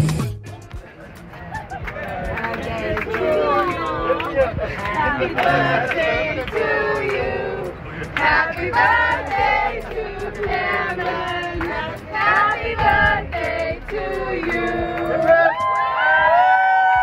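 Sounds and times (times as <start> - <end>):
group of people singing: 1.8 - 15.6.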